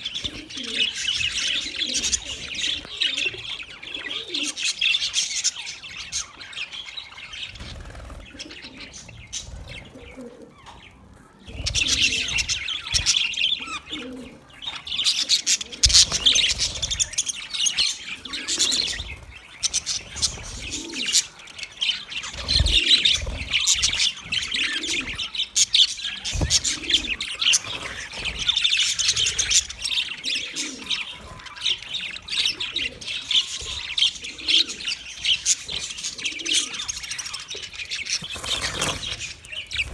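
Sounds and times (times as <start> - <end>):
budgies chirping and chattering: 0.0 - 39.9.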